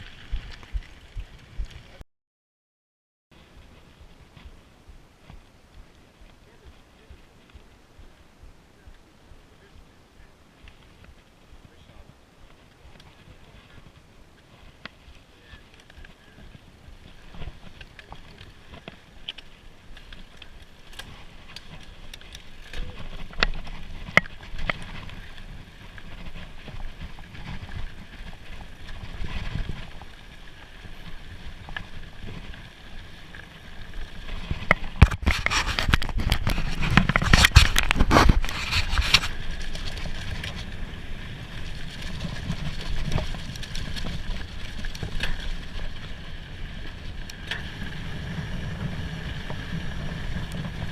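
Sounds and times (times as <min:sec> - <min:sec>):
bike tyre noise on dirt: 0:00.0 - 0:02.0, 0:03.3 - 0:50.9
bike knocking and rattling: 0:03.4 - 0:50.9.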